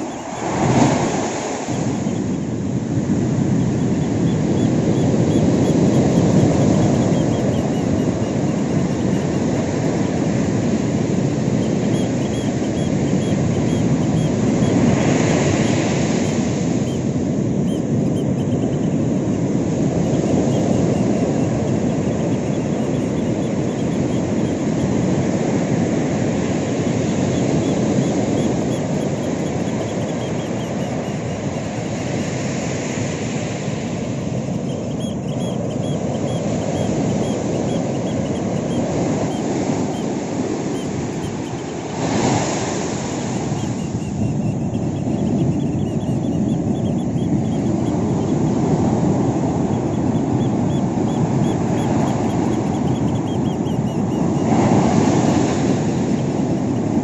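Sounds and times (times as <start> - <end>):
ocean waves crashing on beach: 0.0 - 57.0.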